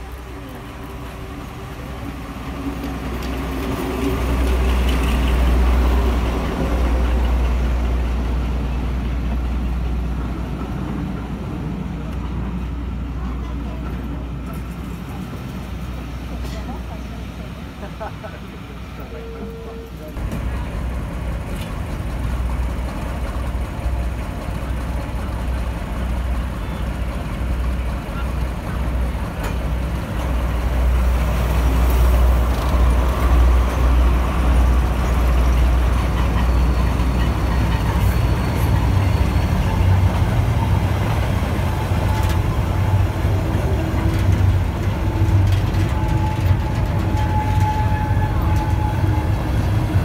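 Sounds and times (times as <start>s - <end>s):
diesel locomotive rumble: 0.0s - 50.0s
train coaches rolling past: 0.0s - 50.0s.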